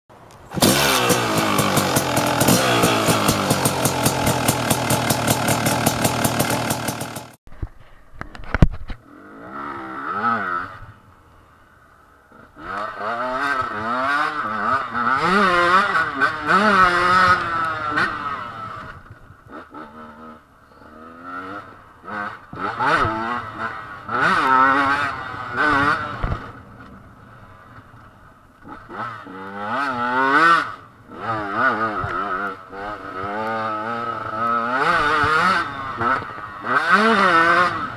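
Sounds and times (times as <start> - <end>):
dirt bike engine revving: 0.5 - 7.4, 9.0 - 11.0, 12.3 - 26.6, 28.6 - 37.9.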